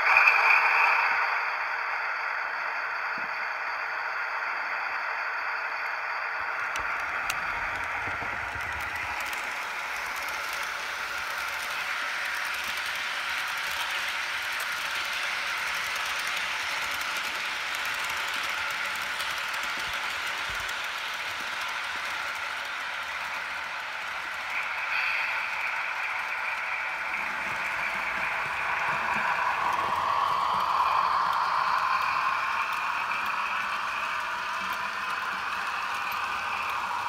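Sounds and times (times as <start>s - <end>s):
model train wheels rattling on rail: 6.4s - 37.0s.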